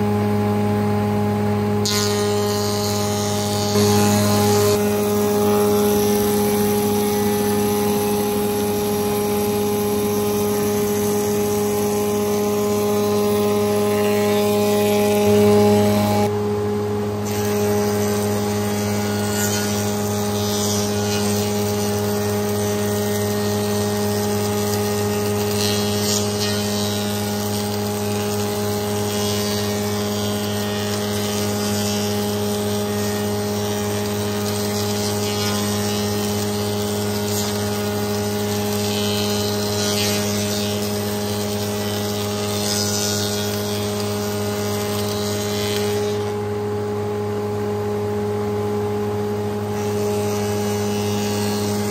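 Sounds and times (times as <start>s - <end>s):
machine hum: 0.0s - 51.9s
cutters cutting wood: 1.8s - 16.3s, 17.2s - 46.6s, 49.7s - 51.9s.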